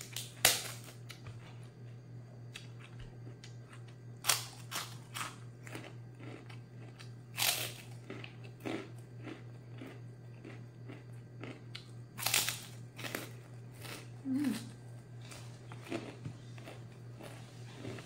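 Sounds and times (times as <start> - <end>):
crunchy cracker bites: 0.0 - 1.3, 2.5 - 18.0
chewing crunches: 0.0 - 18.0.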